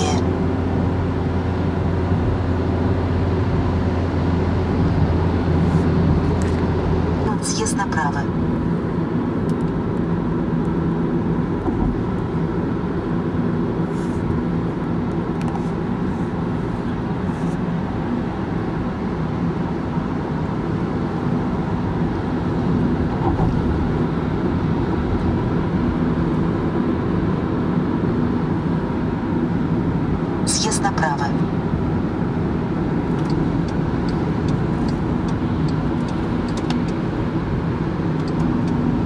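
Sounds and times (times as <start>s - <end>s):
car engine hum: 0.0s - 39.0s
road noise inside car: 0.0s - 39.0s.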